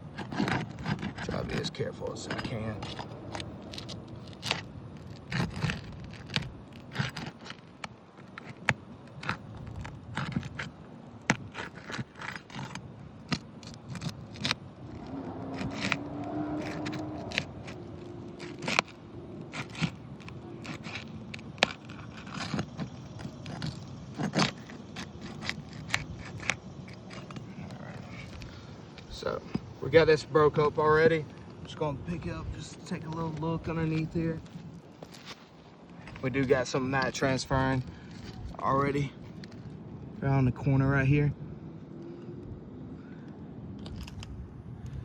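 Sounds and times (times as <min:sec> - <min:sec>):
shingles crackling: 0:00.0 - 0:40.5.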